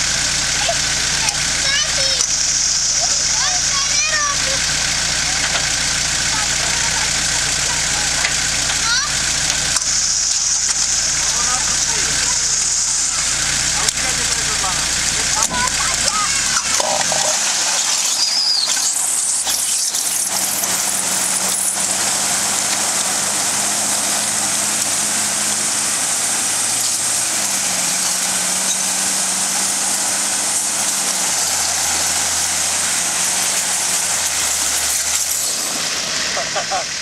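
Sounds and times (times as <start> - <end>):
vehicle engines under load: 0.0 - 37.0
water churning and splashing: 0.0 - 37.0.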